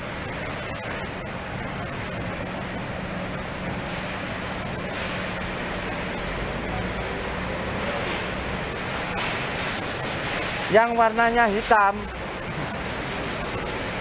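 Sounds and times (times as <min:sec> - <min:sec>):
factory low hum: 0:00.0 - 0:14.0.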